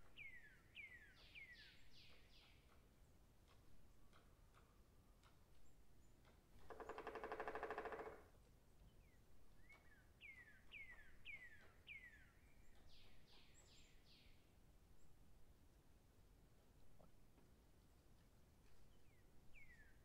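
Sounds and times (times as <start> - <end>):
songbird singing: 0.0 - 8.2, 8.8 - 15.3, 18.6 - 20.0.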